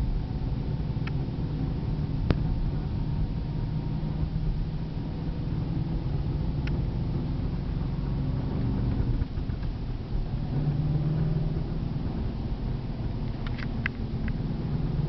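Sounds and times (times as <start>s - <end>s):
car engine driving: 0.0s - 15.0s
road noise: 0.0s - 15.0s.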